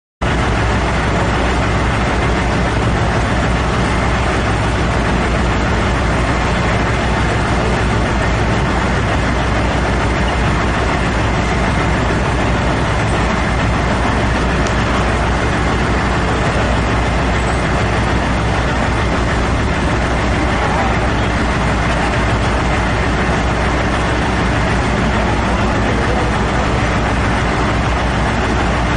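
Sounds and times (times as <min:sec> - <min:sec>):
diesel truck engine running: 0:00.2 - 0:28.9.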